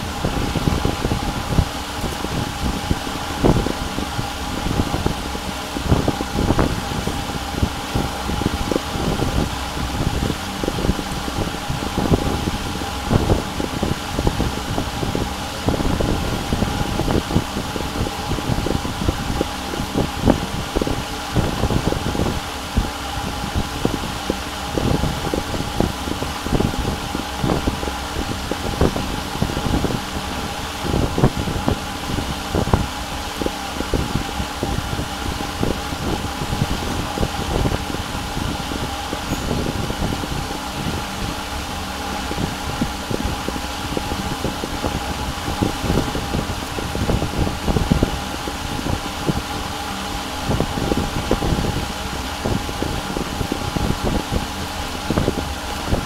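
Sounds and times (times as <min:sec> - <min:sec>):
computer fan whirring: 0:00.0 - 0:56.0.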